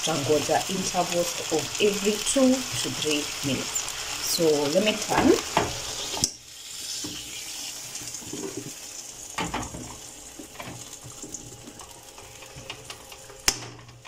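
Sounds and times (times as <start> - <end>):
chicken sizzling in grill pan: 0.0 - 13.6.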